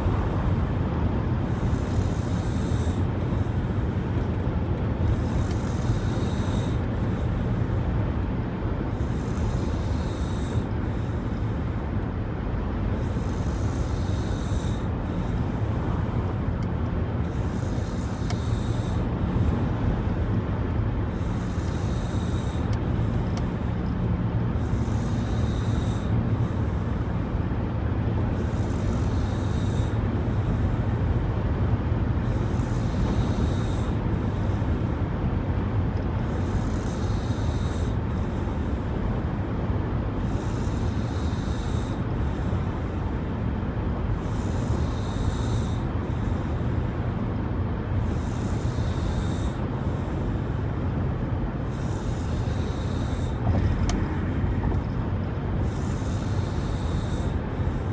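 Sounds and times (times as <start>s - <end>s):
woman snoring: 0.0s - 4.4s, 5.0s - 7.8s, 8.9s - 11.8s, 13.0s - 16.4s, 17.2s - 20.3s, 21.0s - 27.4s, 28.1s - 31.2s, 32.2s - 35.0s, 36.0s - 39.2s, 40.1s - 43.2s, 44.1s - 47.2s, 47.9s - 51.0s, 51.6s - 55.0s, 55.6s - 57.9s
road noise inside a car: 0.0s - 57.9s.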